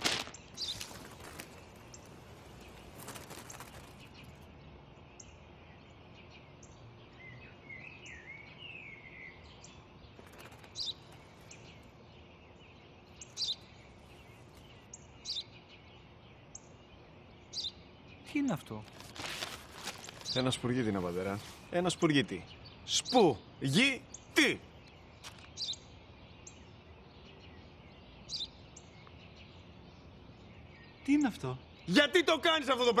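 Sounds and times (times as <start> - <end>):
faint outdoor background: 0.0 - 33.0
small birds chirping: 0.0 - 33.0.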